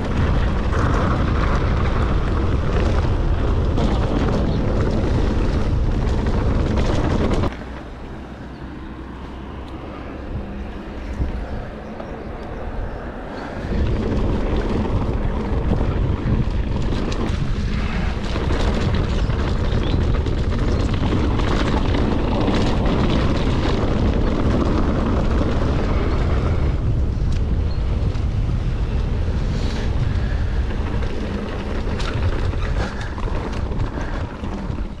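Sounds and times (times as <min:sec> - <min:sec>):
bike rattling over stones: 0:00.0 - 0:07.8, 0:11.0 - 0:35.0
wind buffeting microphone: 0:00.0 - 0:35.0.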